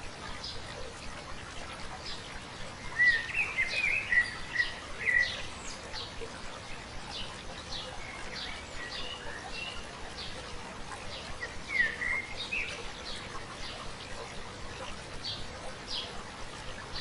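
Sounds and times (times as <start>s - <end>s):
stream water flowing: 0.0s - 17.0s
small birds chirping: 0.2s - 17.0s.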